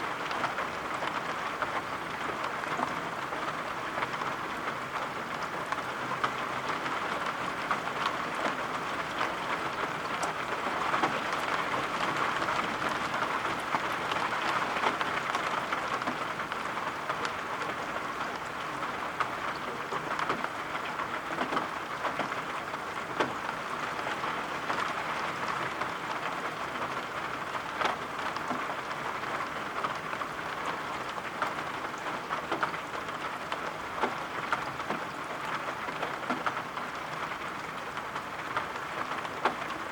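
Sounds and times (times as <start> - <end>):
rain drops tapping: 0.0 - 39.9
steady rain: 0.0 - 39.9.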